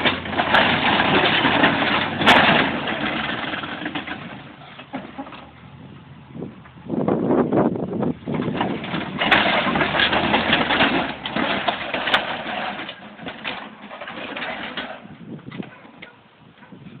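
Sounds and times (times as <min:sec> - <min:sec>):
lawn mower crunching and cracking: 0:00.0 - 0:05.8, 0:08.0 - 0:16.2.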